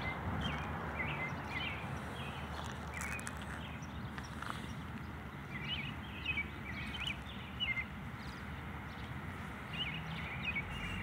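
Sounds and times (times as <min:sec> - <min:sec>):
songbird high chirps: 0:00.0 - 0:11.0.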